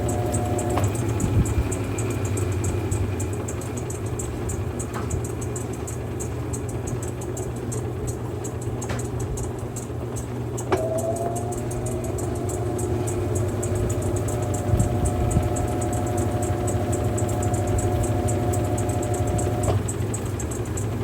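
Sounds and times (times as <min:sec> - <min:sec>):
fast regular ticking: 0:00.0 - 0:10.7, 0:11.3 - 0:21.0
washing machine motor hum: 0:00.0 - 0:21.0.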